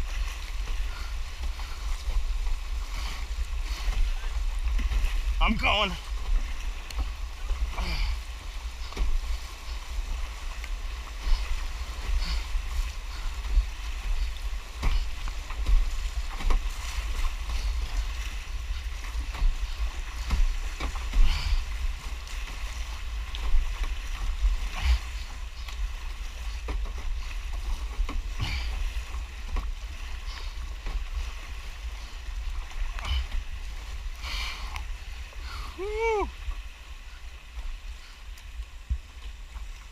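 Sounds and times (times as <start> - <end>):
floodwater rumble: 0.0 - 39.9
paddle strokes splashing: 0.0 - 39.9.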